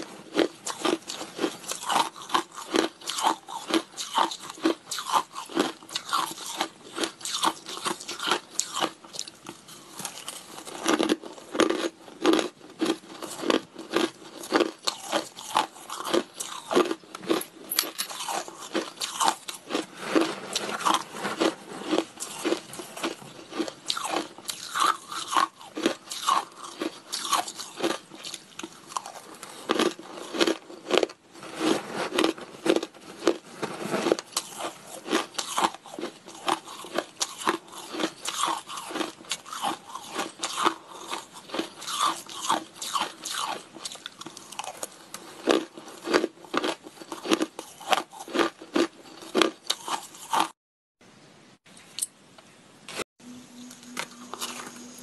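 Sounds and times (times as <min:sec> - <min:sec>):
person chewing crushed ice: 0:00.0 - 0:50.6, 0:53.7 - 0:55.0.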